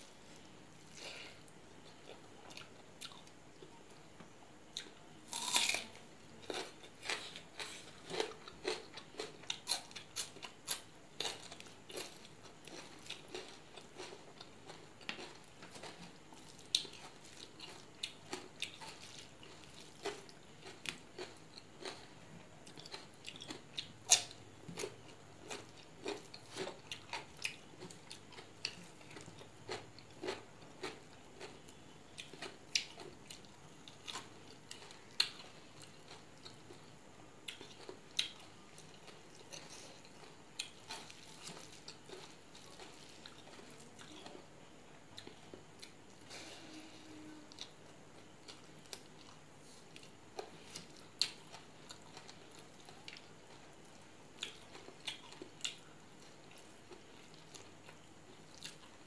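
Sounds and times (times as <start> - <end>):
person chewing food: 0.2 - 44.4, 45.1 - 46.5, 47.5 - 59.0.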